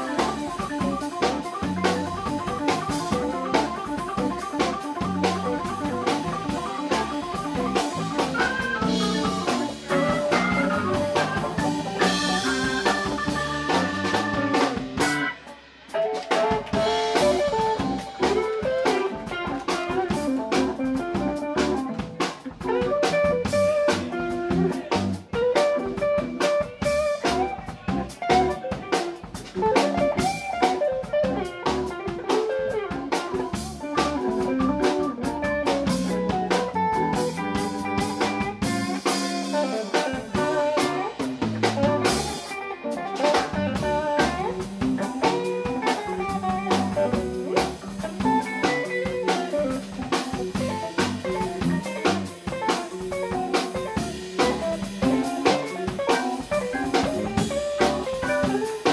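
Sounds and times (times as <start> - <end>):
bass: 0.0 - 58.9
drum kit: 0.0 - 58.9
electric guitar: 0.0 - 58.9
organ: 0.0 - 58.9.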